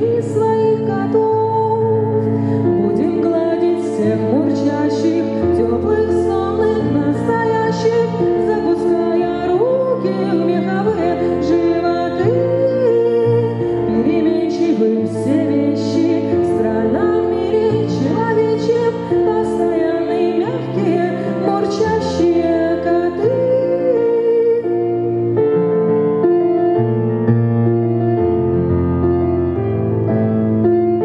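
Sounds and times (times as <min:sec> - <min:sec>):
woman singing: 0:00.0 - 0:25.1
digital piano chords: 0:00.0 - 0:31.0.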